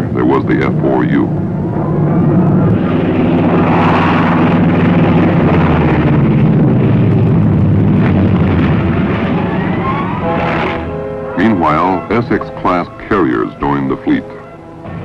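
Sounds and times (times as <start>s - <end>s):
piston-engine aircraft roaring: 0.0s - 15.0s.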